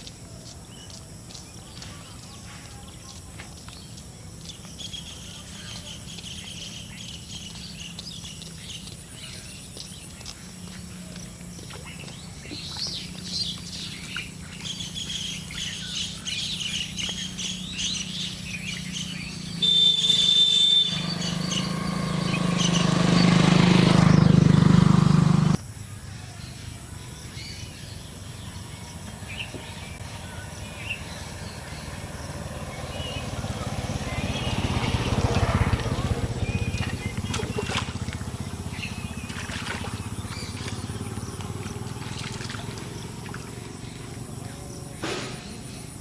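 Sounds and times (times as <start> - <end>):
birds chirping: 0.0 - 25.6, 26.2 - 46.0.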